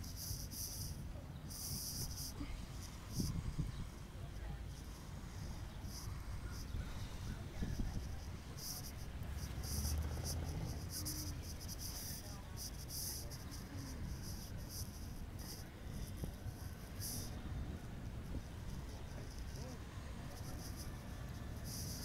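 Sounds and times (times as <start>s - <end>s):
insect buzzing: 0.0s - 22.0s.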